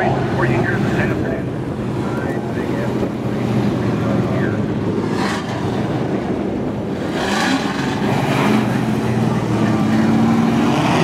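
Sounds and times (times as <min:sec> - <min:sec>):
race truck engines running: 0:00.0 - 0:11.0.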